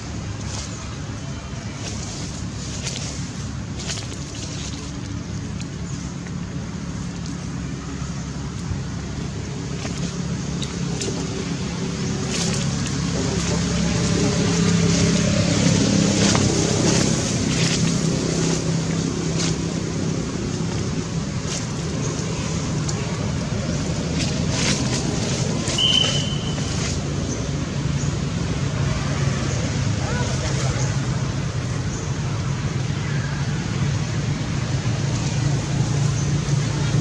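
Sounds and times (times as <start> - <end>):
outdoor background noise: 0.0 - 37.0
passing vehicle engine hum: 0.0 - 37.0.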